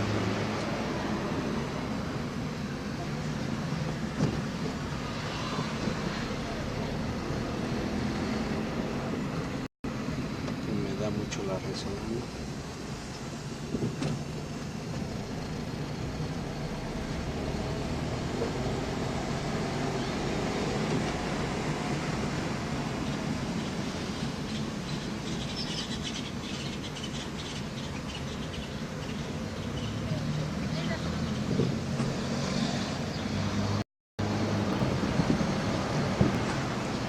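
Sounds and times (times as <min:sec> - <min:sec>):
car engine and tyre noise: 0:00.0 - 0:37.0.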